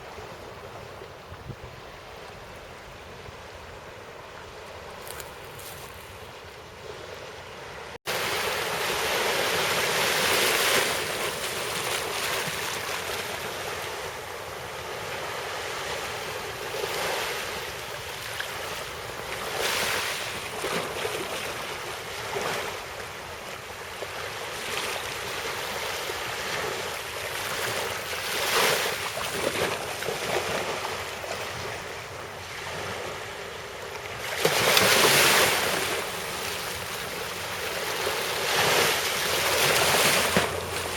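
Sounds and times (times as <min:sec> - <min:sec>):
sea waves washing ashore: 0:00.0 - 0:40.9.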